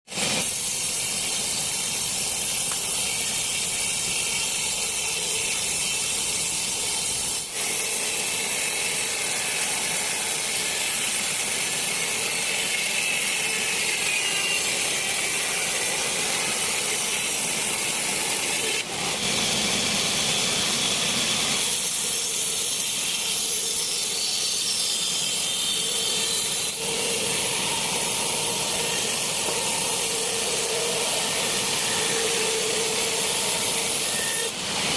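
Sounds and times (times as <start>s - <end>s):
saw cutting through log: 0.1s - 34.9s.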